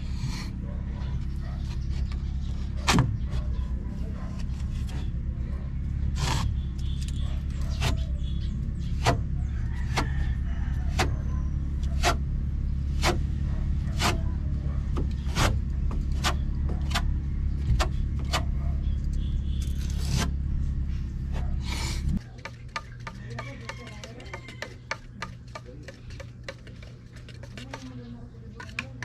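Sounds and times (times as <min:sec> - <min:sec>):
low motor hum: 0:00.0 - 0:29.0.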